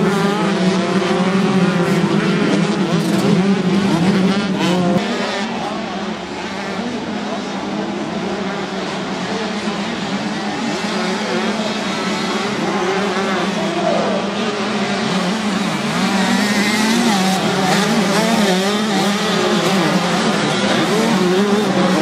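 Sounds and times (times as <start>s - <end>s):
motocross bike engines racing past: 0.0s - 22.0s.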